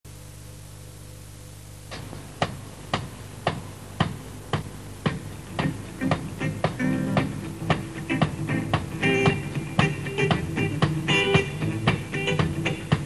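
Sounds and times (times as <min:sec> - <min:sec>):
low electrical hum: 0:00.1 - 0:13.0
drum beat: 0:01.9 - 0:13.0.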